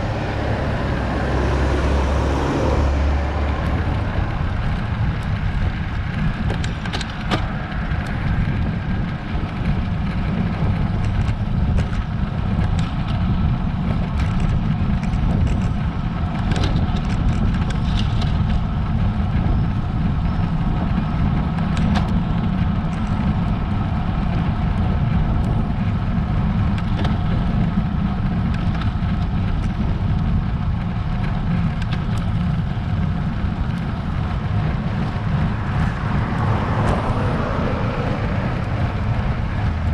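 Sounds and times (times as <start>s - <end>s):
road rumble: 0.0s - 39.9s
wind on microphone: 0.0s - 39.9s.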